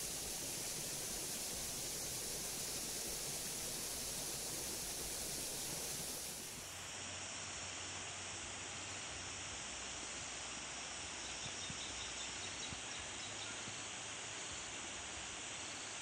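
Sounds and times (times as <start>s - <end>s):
even outdoor hiss: 0.0s - 16.0s.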